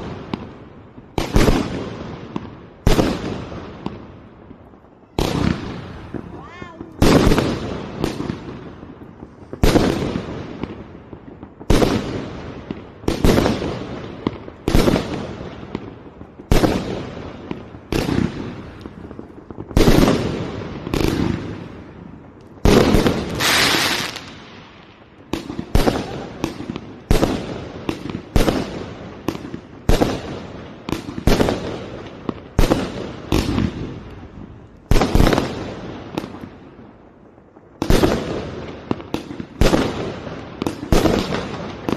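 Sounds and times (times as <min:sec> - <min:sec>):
firework shells banging and crackling: 0:00.0 - 0:41.9.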